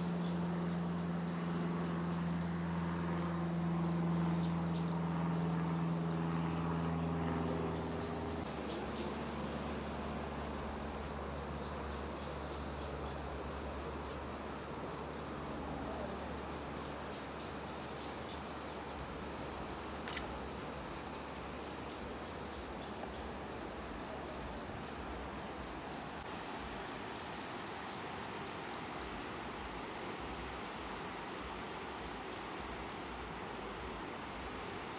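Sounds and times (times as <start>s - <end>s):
crickets chirring: 0.0s - 34.9s.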